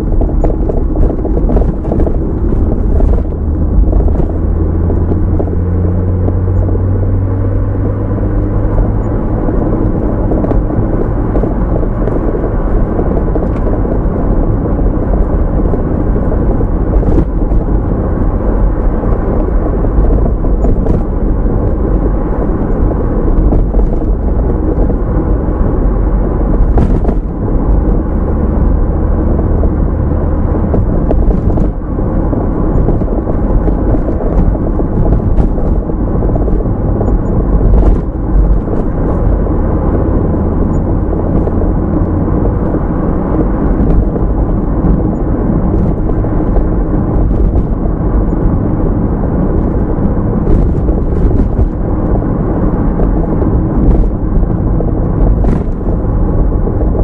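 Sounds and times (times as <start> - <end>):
car driving low rumble: 0.0 - 57.0.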